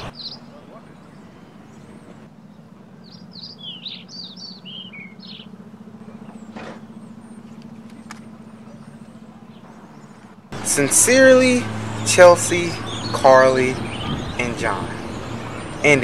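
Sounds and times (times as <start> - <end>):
bird chirping: 0.0 - 16.0
low outdoor hum: 0.0 - 16.0.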